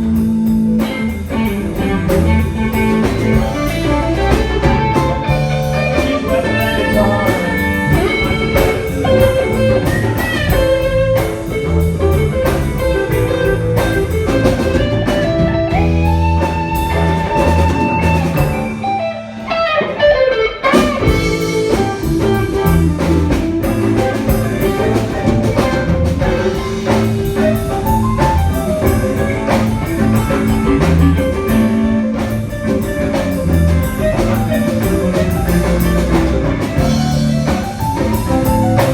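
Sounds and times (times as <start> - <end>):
drum kit beats: 0.0 - 38.9
electric guitar: 0.0 - 38.9.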